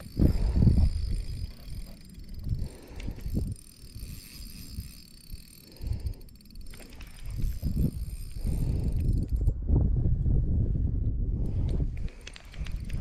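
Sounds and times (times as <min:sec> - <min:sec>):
faint reel clicks: 0:00.0 - 0:09.6, 0:11.4 - 0:13.0
wind buffeting microphone: 0:00.0 - 0:13.0.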